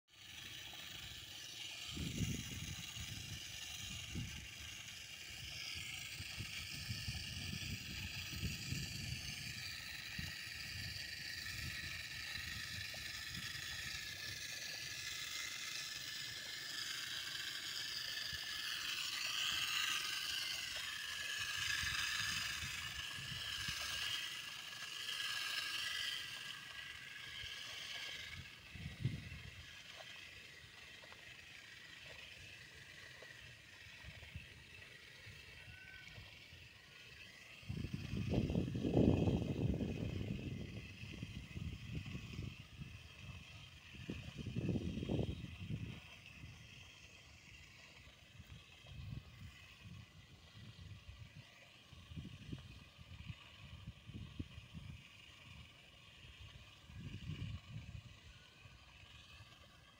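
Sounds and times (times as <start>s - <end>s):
spreader motor whirring hiss: 0.1s - 59.9s.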